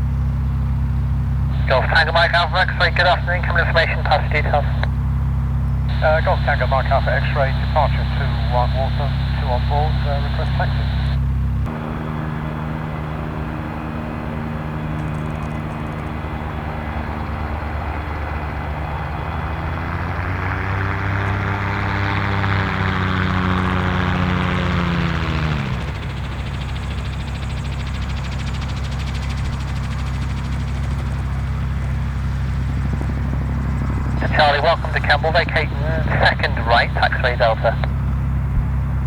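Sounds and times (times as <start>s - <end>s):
propeller aircraft passing: 0.0s - 39.0s
steady low rumble: 0.0s - 39.0s.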